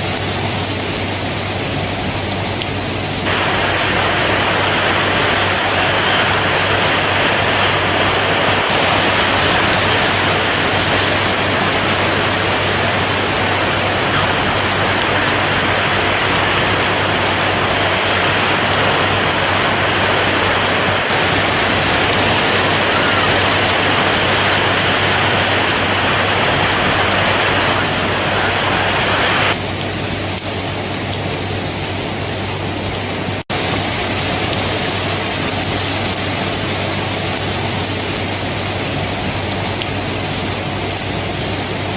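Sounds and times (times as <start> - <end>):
rain: 0.0 - 41.9.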